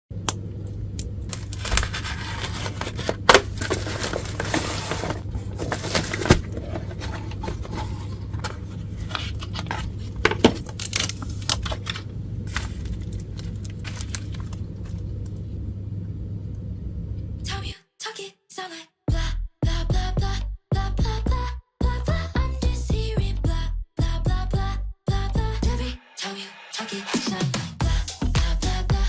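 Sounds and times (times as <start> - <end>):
steady low hum: 0.1 - 17.7, 19.1 - 26.8, 27.5 - 29.0.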